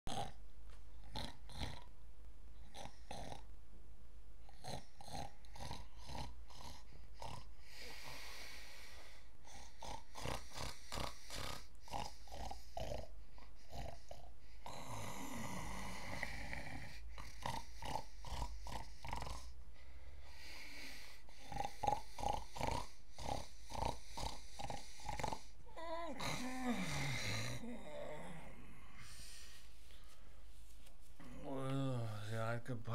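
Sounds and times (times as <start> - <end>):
man snoring: 0.1 - 0.4, 1.0 - 1.9, 2.6 - 3.5, 4.5 - 19.6, 20.2 - 29.6.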